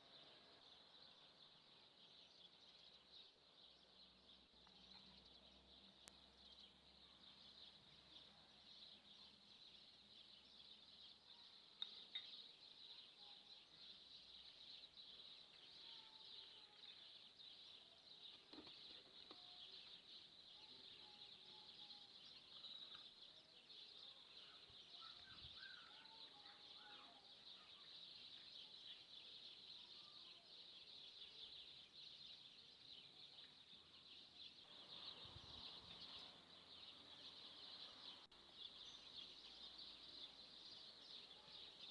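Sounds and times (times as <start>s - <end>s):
faint high-pitched hiss: 0.0s - 41.9s.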